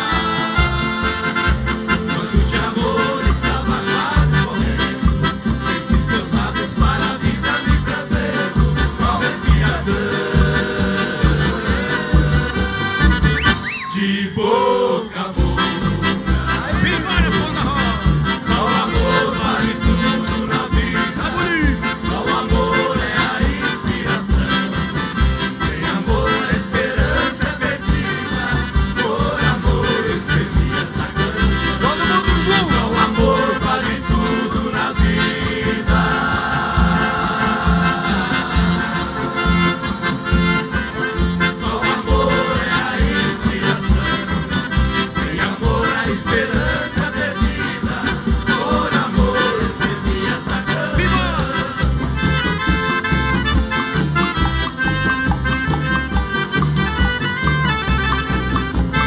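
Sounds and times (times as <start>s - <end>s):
live country band instrumental: 0.0s - 59.0s.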